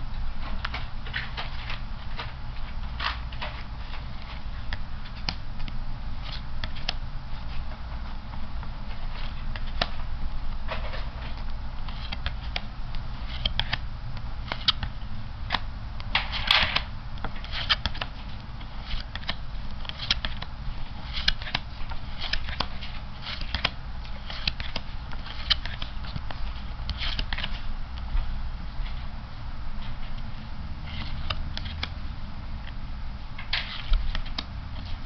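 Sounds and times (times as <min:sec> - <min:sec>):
playing cards snapping and rustling: 0:00.5 - 0:28.1, 0:30.9 - 0:32.0, 0:33.4 - 0:35.0.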